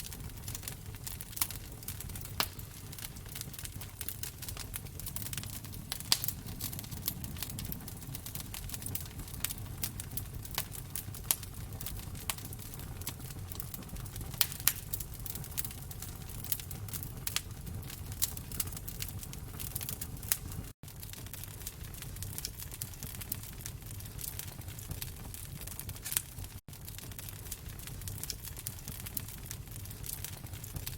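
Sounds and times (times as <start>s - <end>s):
fire pops and crackles: 0.0s - 30.9s
low rumble of flames: 0.0s - 30.9s.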